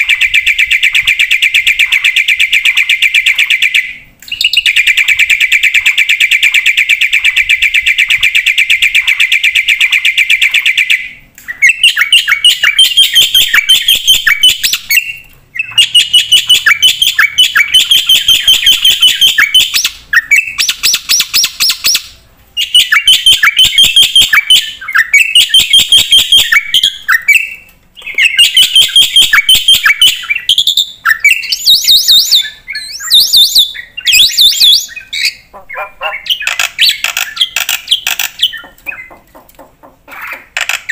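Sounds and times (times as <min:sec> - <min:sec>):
myna singing rapid chirps: 0:00.0 - 0:40.9.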